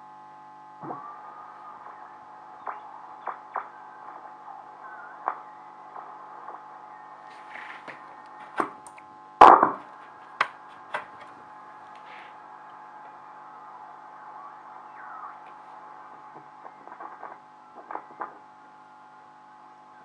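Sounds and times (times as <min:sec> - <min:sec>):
radio loudspeaker hum: 0:00.0 - 0:20.0
radio crackles and clicks: 0:00.7 - 0:20.0.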